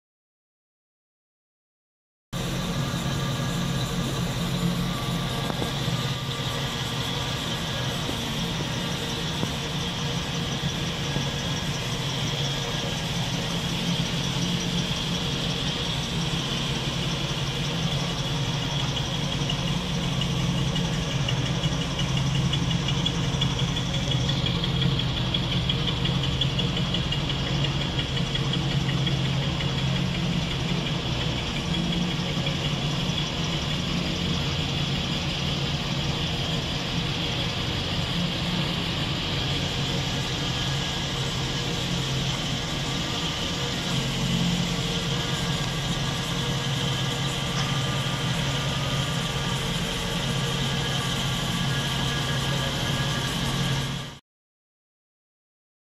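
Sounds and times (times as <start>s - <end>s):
car engine idling: 2.4s - 54.2s.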